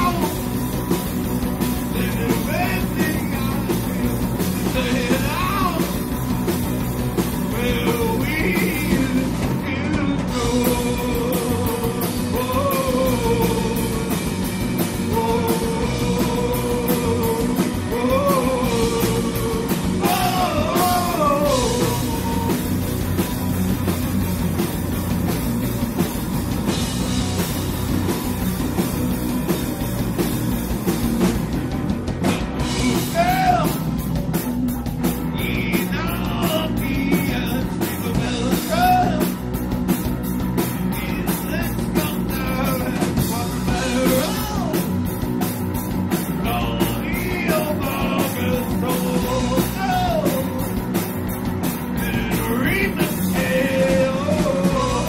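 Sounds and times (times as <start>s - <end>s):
drum kit beat: 0.0s - 55.0s
live rock band: 0.0s - 55.0s.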